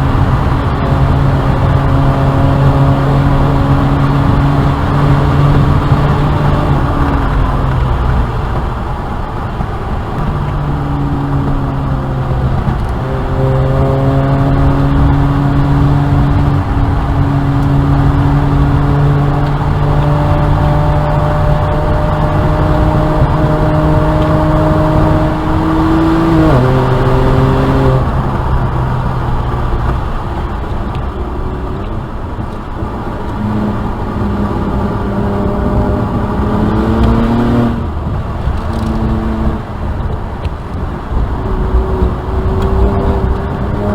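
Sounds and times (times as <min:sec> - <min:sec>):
car engine revving hard: 0:00.0 - 0:43.9.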